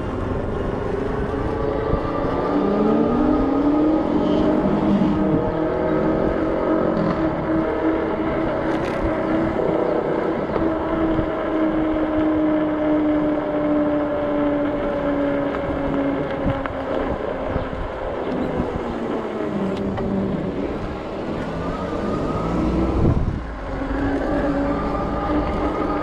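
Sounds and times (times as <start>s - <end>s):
electric bike motor hum: 0.0s - 26.0s.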